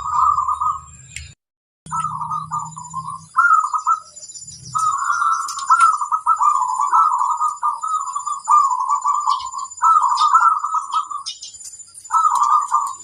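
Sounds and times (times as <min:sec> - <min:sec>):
doves cooing: 0:00.0 - 0:00.9, 0:01.9 - 0:13.0.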